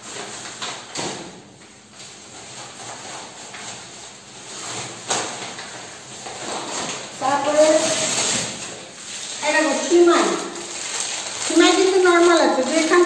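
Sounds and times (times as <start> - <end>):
plastic food bags rustling: 0.0 - 13.0.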